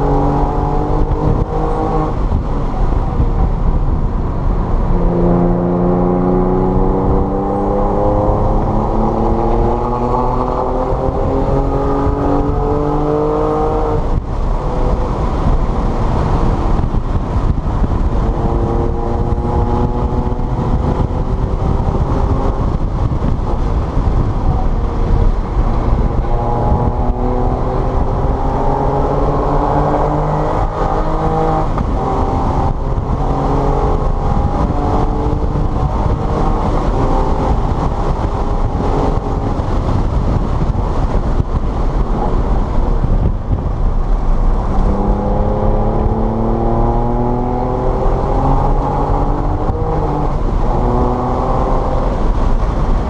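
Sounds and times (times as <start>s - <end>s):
car engine accelerating hard: 0.0s - 53.0s.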